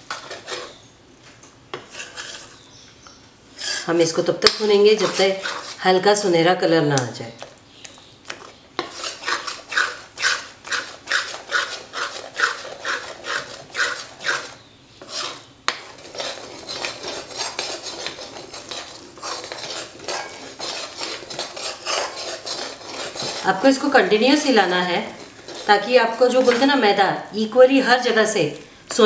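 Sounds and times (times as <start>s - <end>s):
spoon scraping metal pan: 0.0s - 0.8s, 1.8s - 2.6s, 3.6s - 6.2s, 8.3s - 27.2s.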